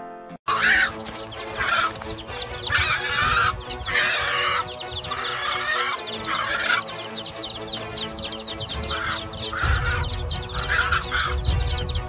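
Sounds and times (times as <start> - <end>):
background music with steady tones: 0.0 - 12.0
hen squawking: 0.5 - 12.0.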